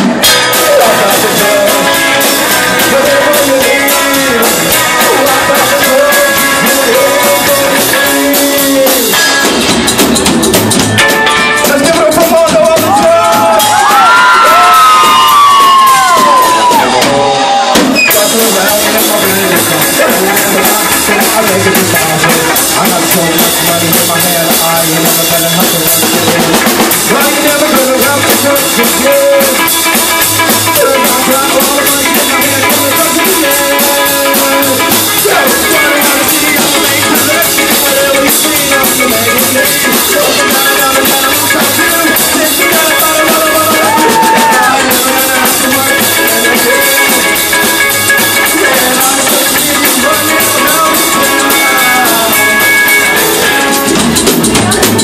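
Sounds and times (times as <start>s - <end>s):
drum kit: 0.0s - 55.0s
electric guitar: 0.0s - 55.0s
upright bass: 0.0s - 55.0s.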